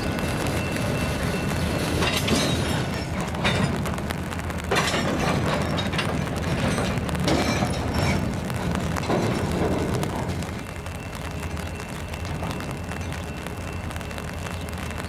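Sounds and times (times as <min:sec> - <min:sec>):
diesel locomotive rumble: 0:00.0 - 0:15.0
metallic clanks of freight cars: 0:00.0 - 0:15.0.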